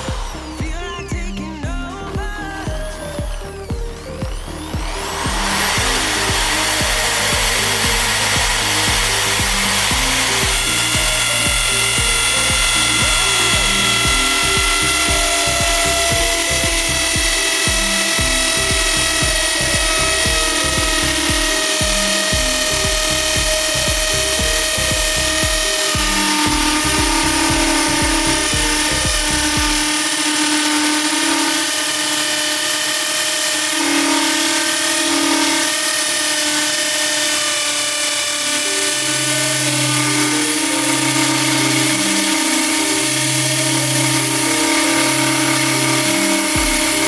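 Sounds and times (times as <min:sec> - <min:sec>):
background music with steady beat: 0:00.0 - 0:47.0
power drill motor whine: 0:00.0 - 0:47.0.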